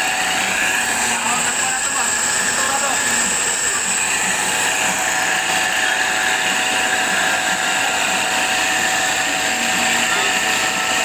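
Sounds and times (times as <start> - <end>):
grinder grinding metal blade: 0.0 - 11.0.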